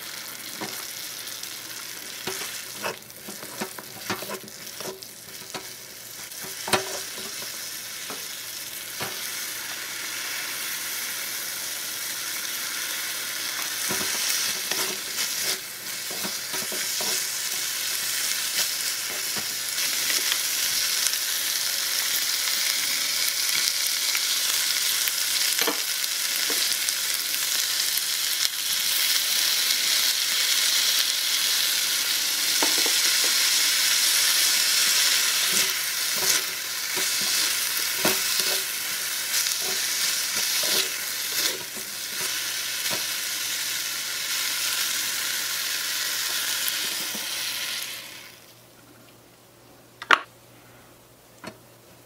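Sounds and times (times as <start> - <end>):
vegetables sizzling in hot oil: 0.0 - 48.5.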